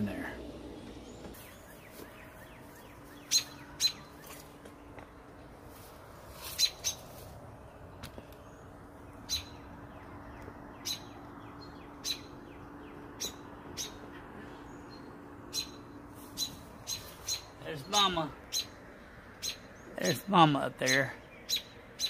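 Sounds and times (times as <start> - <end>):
bird chirping alarm calls: 0.0 - 5.2, 6.4 - 22.0.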